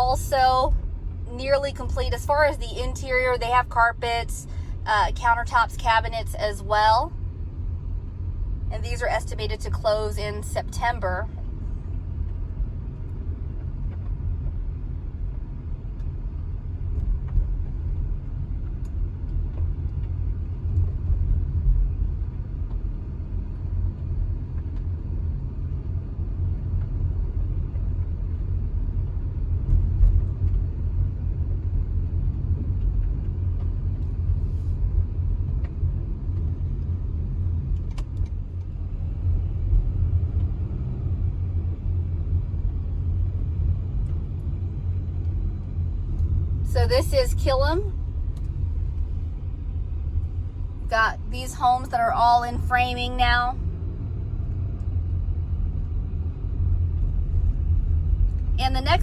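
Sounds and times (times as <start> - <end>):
car driving slowly: 0.0 - 59.0.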